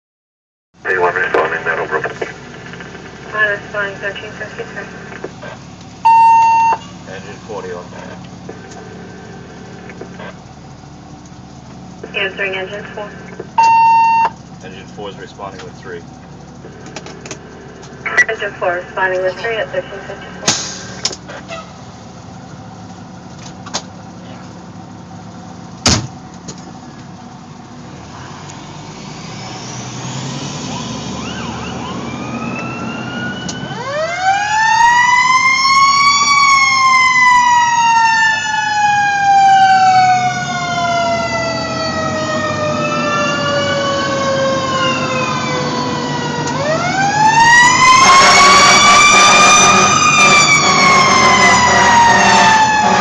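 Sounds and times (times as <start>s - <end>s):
fire engine siren wailing: 0.8s - 11.0s, 11.8s - 15.4s, 16.3s - 23.2s, 27.6s - 53.0s
truck engine running: 0.8s - 53.0s.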